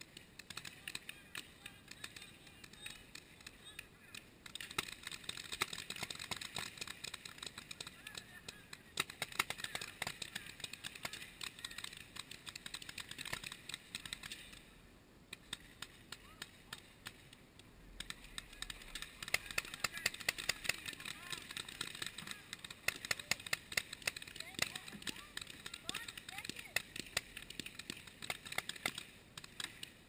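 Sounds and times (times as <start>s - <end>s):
paintball markers popping: 0.0s - 14.6s, 15.3s - 30.0s.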